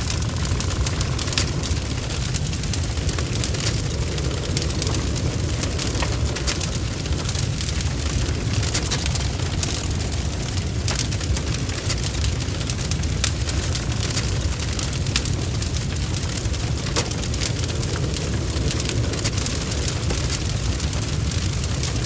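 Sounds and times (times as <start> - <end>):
large fire roaring and crackling: 0.0 - 22.0.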